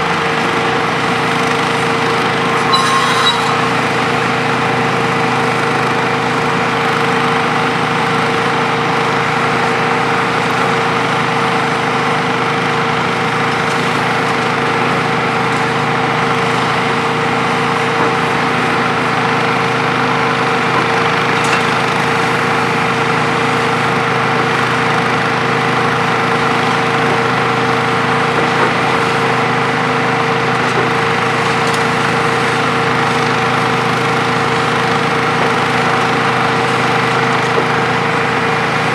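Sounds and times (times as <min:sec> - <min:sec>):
excavator engine droning: 0:00.0 - 0:38.9.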